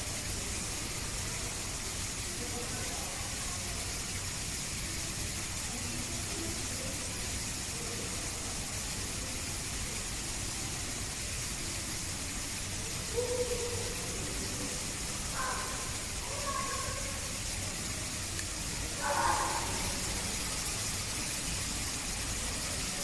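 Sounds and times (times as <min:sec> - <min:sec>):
faint distant voices: 0:00.0 - 0:23.0
rushing hiss: 0:00.0 - 0:23.0.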